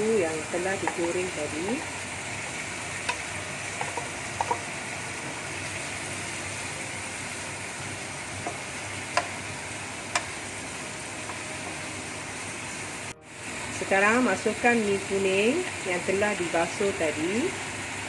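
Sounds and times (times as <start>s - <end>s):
stir-fry sizzling in a wok: 0.0s - 18.0s.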